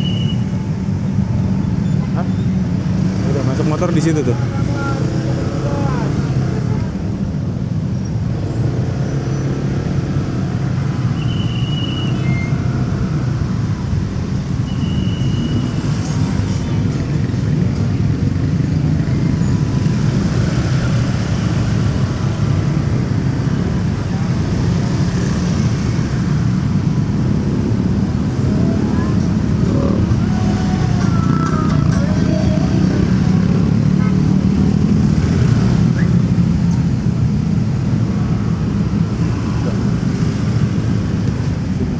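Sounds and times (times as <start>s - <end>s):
city traffic noise: 0.0s - 41.9s.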